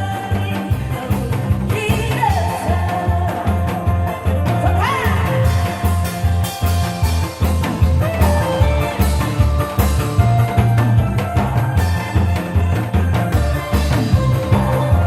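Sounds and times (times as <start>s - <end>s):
instrumental music with heavy beat: 1.9s - 15.0s.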